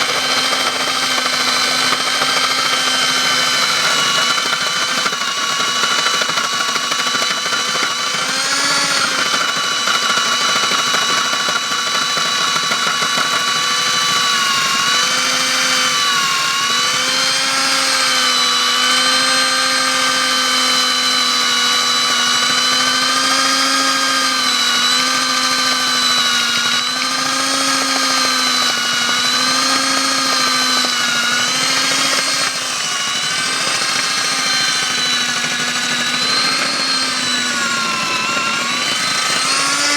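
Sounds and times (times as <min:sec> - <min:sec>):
core drill boring: 0:00.0 - 0:39.9
vacuum cleaner running: 0:00.0 - 0:39.9.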